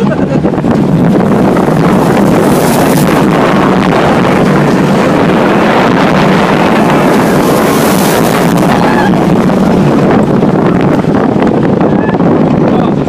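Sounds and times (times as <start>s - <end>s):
roller coaster rolling on track: 0.0s - 13.0s
wind on microphone: 0.0s - 13.0s.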